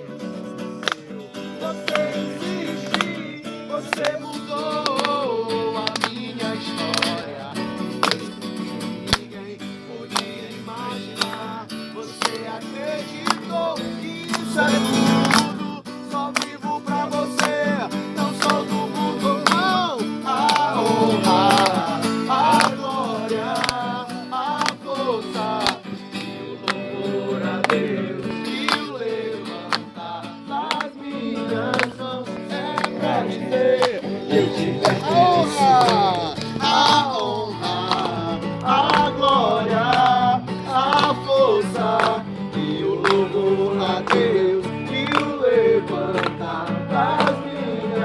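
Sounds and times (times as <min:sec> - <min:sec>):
acoustic guitar strumming: 0:00.0 - 0:48.0
man singing wordless melody: 0:00.0 - 0:48.0.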